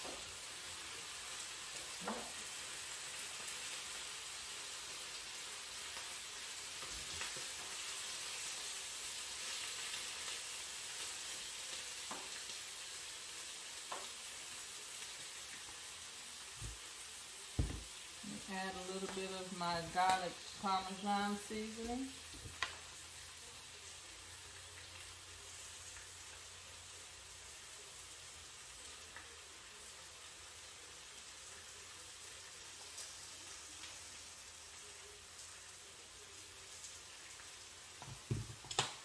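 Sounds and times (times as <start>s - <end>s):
spinach sizzling in a pan: 0.0s - 39.0s.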